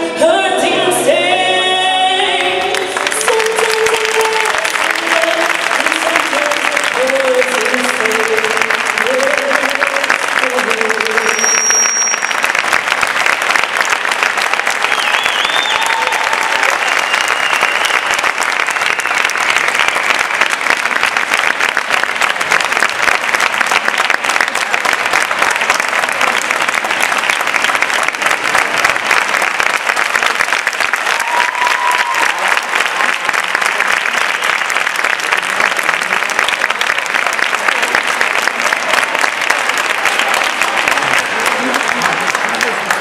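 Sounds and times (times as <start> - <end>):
audience applauding: 2.2 - 43.0.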